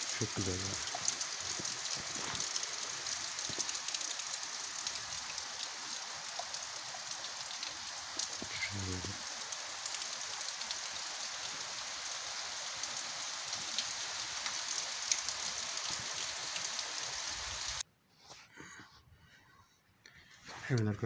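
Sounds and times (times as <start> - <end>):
steady rain hiss: 0.0 - 17.8.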